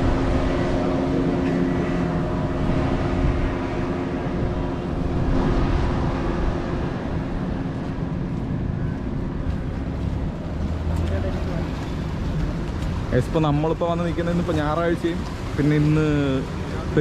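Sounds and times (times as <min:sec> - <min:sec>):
low rumble: 0:00.0 - 0:15.6
boat engine droning: 0:00.0 - 0:17.0.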